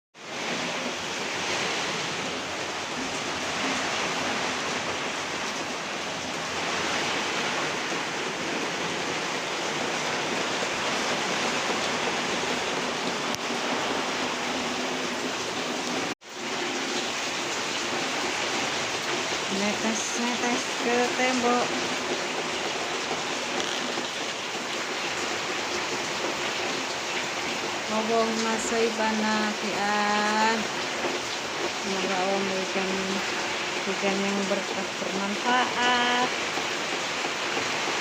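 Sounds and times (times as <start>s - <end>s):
heavy rain pouring: 0.2s - 38.0s.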